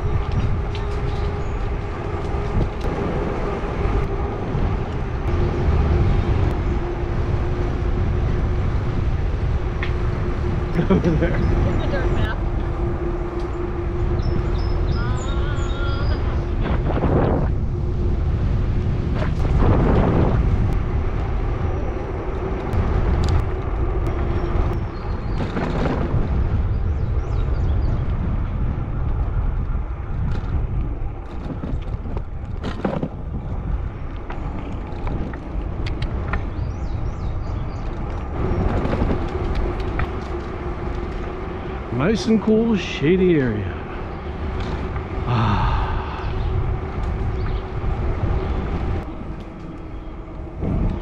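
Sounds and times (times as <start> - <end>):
tires rumbling on pavement: 0.0 - 51.0
wind rushing over microphone: 0.0 - 51.0.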